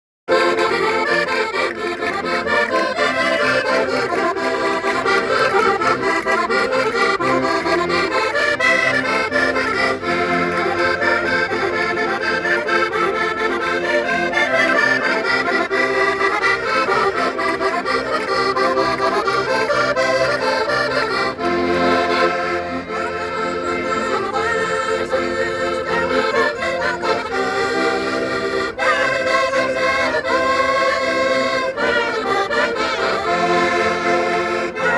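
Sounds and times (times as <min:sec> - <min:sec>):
button accordions playing folk tune: 0:00.3 - 0:34.9.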